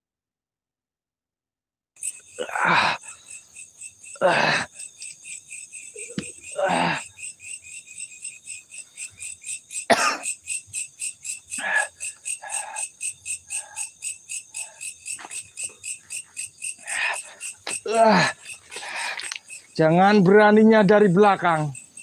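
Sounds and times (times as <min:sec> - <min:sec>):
insects chirping: 0:02.0 - 0:22.0.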